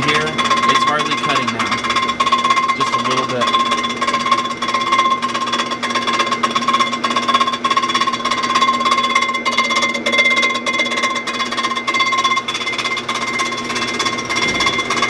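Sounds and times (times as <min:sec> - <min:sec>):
milling cutter whine and rattle: 0:00.0 - 0:15.0.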